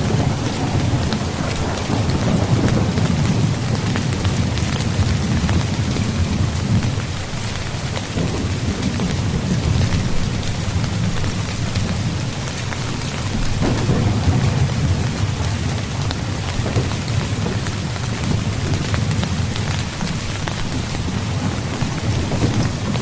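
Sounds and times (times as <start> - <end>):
continuous low rumble: 0.0 - 23.0
rain pattering on a tent: 0.0 - 23.0.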